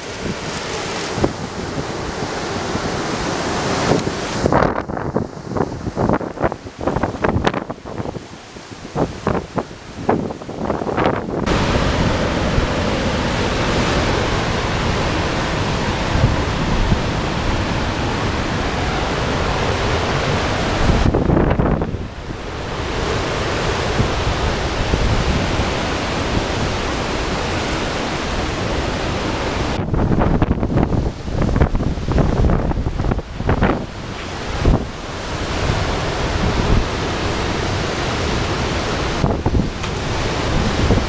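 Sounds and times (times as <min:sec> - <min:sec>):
driving rain: 0:00.0 - 0:41.0
hurricane wind: 0:00.0 - 0:41.0.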